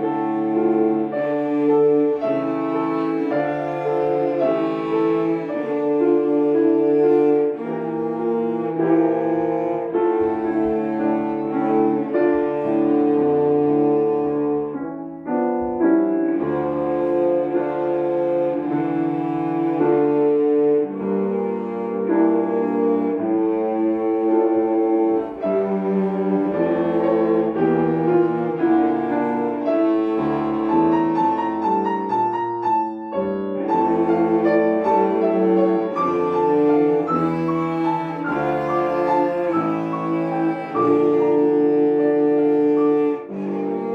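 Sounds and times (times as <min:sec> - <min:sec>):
cellos playing bowed notes: 0:00.0 - 0:43.9
piano accompaniment: 0:00.0 - 0:43.9.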